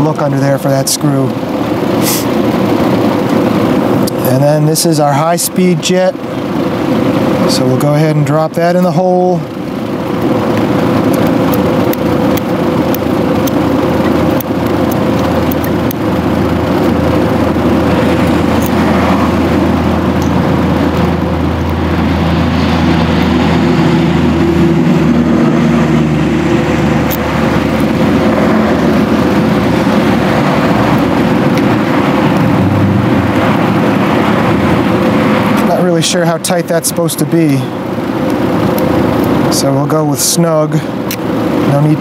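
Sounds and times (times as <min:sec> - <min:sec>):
motor engine running: 0:00.0 - 0:42.0.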